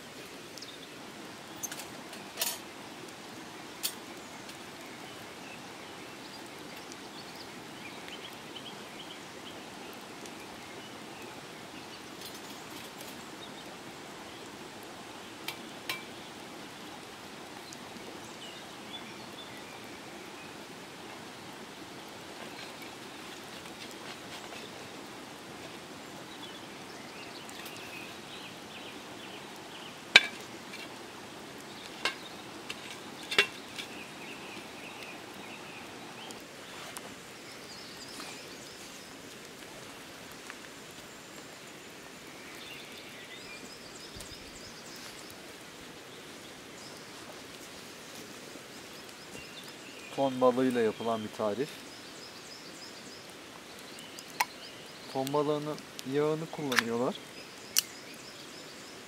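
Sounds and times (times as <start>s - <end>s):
rainwater dripping from trees: 0.0s - 59.0s.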